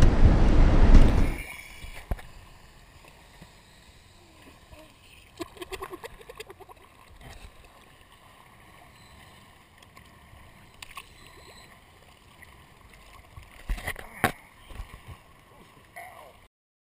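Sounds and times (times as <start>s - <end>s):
water lapping: 1.2s - 16.5s.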